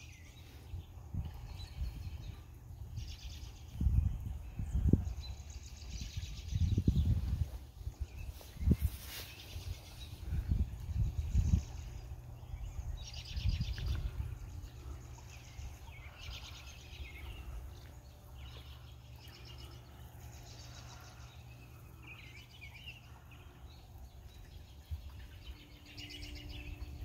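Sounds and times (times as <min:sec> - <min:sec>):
songbirds singing trills: 0:00.0 - 0:27.0
steady low rumble: 0:00.0 - 0:27.0.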